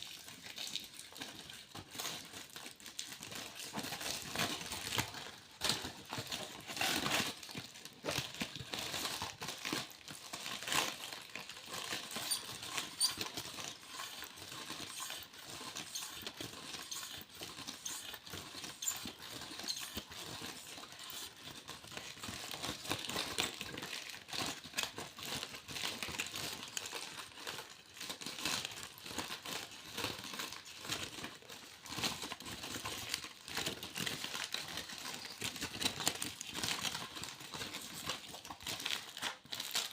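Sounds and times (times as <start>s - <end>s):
aluminium foil crinkling: 0.0s - 39.9s.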